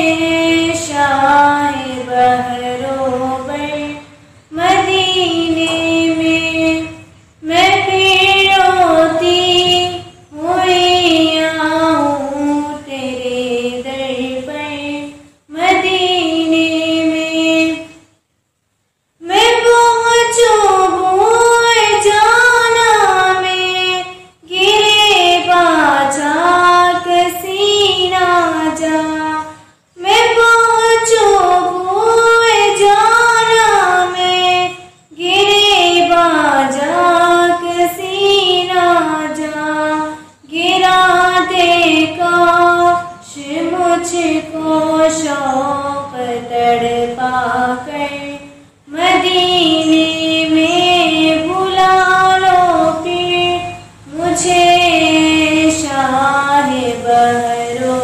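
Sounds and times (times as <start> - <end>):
girl singing unaccompanied: 0.0 - 18.3, 19.2 - 58.0.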